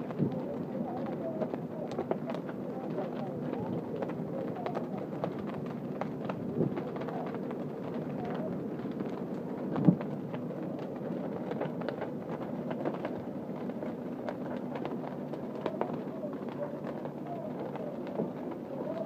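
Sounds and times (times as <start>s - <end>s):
fire crackling and popping: 0.0s - 19.0s
low rumble of fire: 0.0s - 19.0s.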